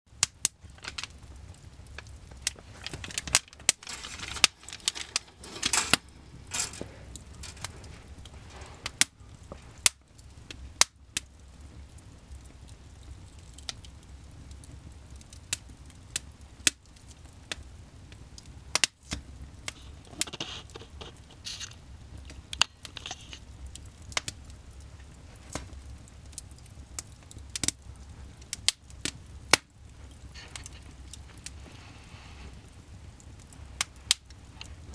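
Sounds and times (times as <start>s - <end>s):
fire hissing: 0.1s - 34.9s
wood fire crackling and popping: 0.1s - 34.9s.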